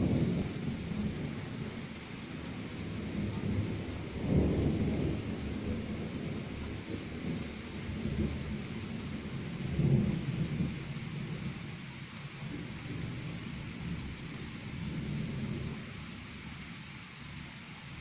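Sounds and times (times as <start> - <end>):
distant thunder rumbling: 0.0 - 11.8, 12.4 - 16.2.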